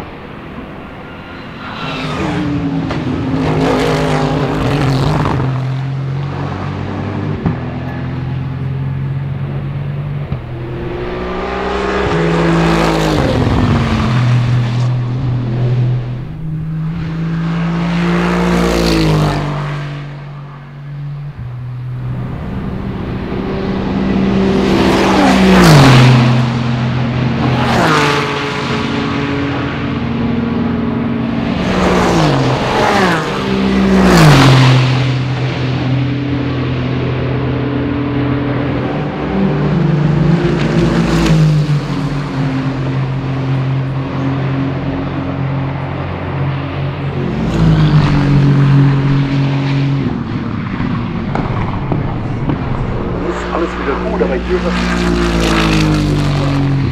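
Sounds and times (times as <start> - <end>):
race cars passing at speed: 0.0 - 56.9.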